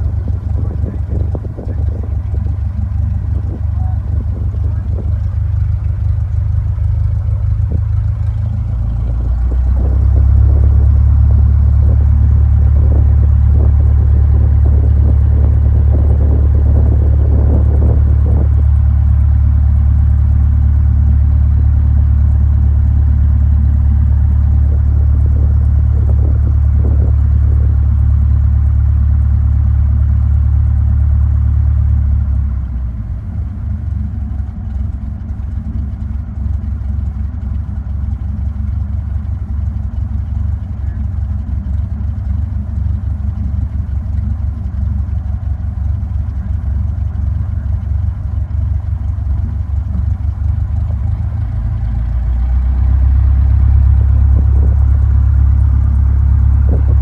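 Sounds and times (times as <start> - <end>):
plane engine and propeller drone: 0.0 - 57.0.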